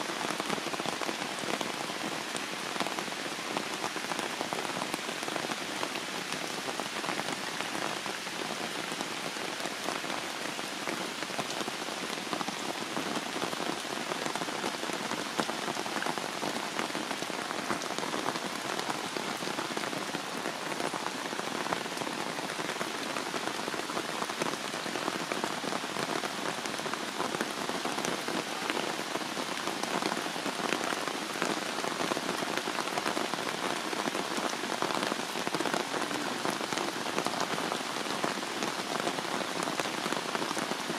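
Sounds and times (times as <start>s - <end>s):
heavy rain on foliage and stone: 0.0s - 40.9s.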